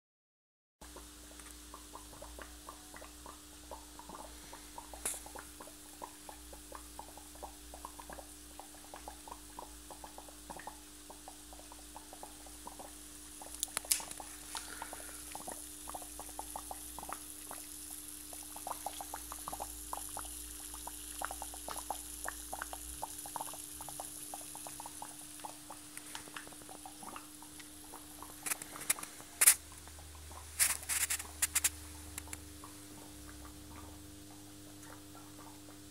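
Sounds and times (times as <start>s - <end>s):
gas bubbles crackling and popping: 0.8s - 35.9s.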